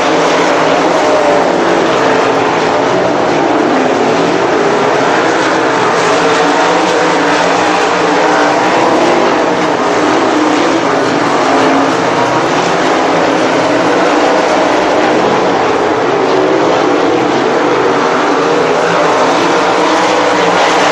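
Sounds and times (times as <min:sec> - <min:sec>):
racing car engines at high revs: 0:00.0 - 0:20.9.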